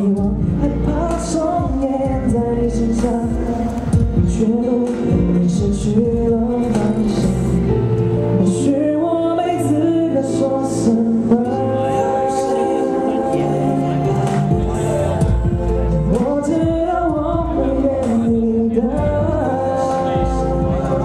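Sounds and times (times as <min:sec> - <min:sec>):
band playing: 0:00.0 - 0:21.0
man singing into microphone: 0:00.0 - 0:21.0.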